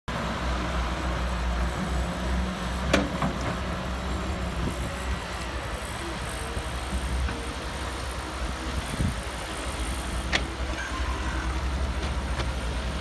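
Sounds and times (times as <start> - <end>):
diesel machinery rumbling: 0.1 - 13.0.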